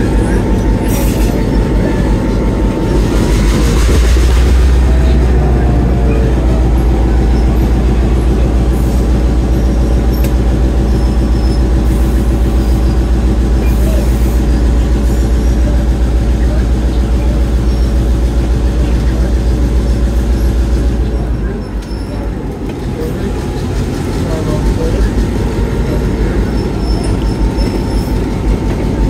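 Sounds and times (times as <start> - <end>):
diesel locomotive engine droning: 0.0 - 29.0.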